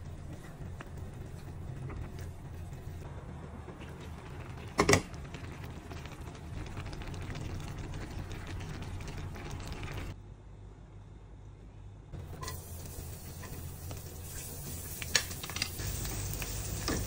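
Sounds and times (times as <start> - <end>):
vegetables crackling in a wok: 0.0 - 10.2, 12.2 - 17.0.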